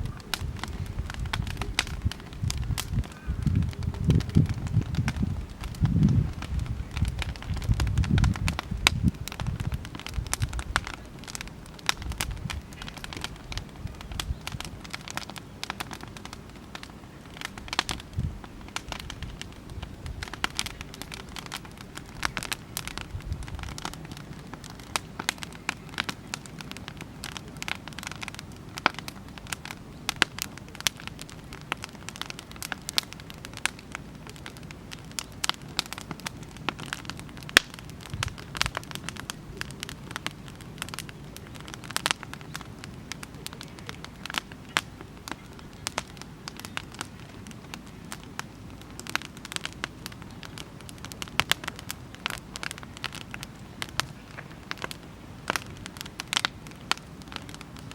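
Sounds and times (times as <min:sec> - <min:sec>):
campfire wood crackling and popping: 0:00.0 - 0:57.9
low steady rumble: 0:00.0 - 0:57.9.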